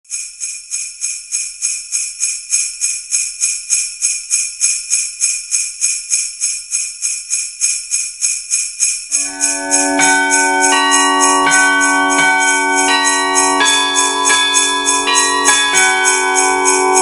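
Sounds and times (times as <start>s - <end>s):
sleigh bells shaking: 0.1s - 17.0s.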